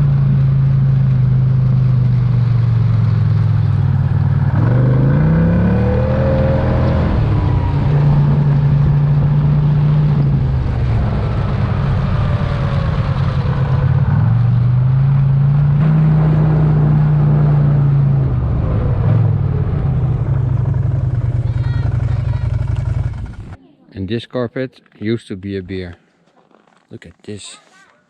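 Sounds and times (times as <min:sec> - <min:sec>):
vehicle engine running: 0:00.0 - 0:23.6.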